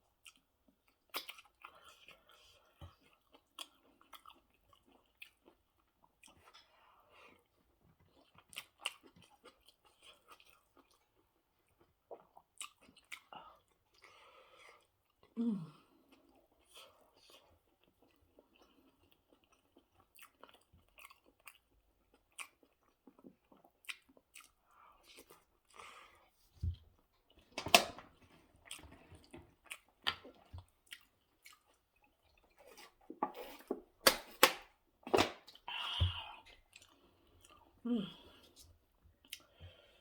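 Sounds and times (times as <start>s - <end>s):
close chewing and wet mouth sounds: 0.0s - 34.0s, 34.7s - 40.0s.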